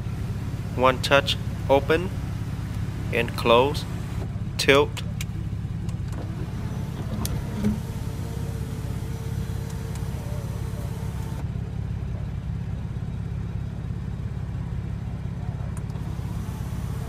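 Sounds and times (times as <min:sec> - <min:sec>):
car engine idling: 0:00.0 - 0:17.0
moonroof motor humming: 0:00.0 - 0:17.0.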